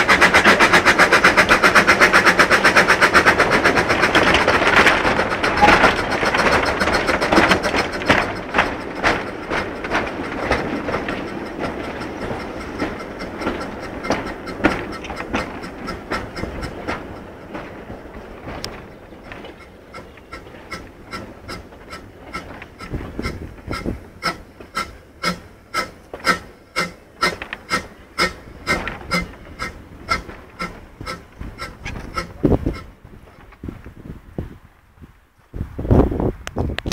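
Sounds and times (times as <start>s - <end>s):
steam locomotive exhaust chuffing: 0.0s - 34.2s
wagon wheels clattering over rail joints: 0.0s - 34.2s.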